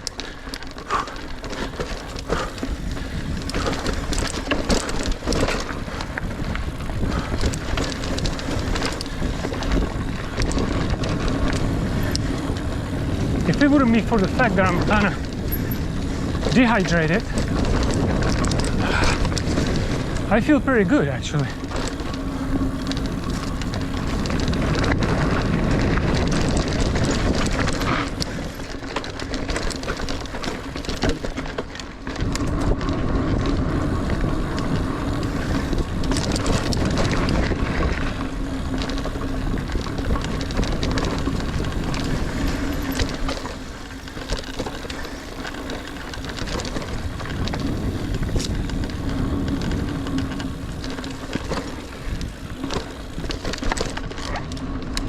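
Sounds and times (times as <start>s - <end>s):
bike knocks and rattles: 0.0s - 55.0s
bike tyre and drivetrain noise: 0.0s - 55.0s.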